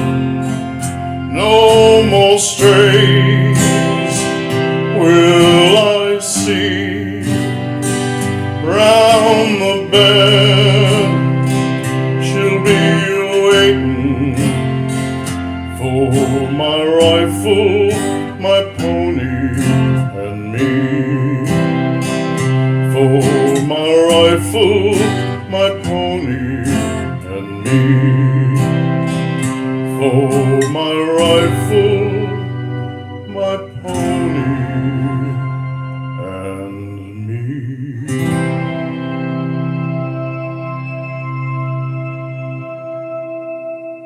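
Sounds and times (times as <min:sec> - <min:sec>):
bass line: 0:00.0 - 0:44.0
country-western guitar music: 0:00.0 - 0:44.0.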